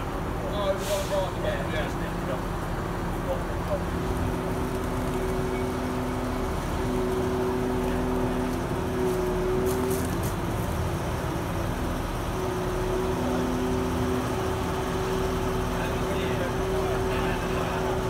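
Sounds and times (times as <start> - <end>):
crane diesel engine drone: 0.0 - 18.0.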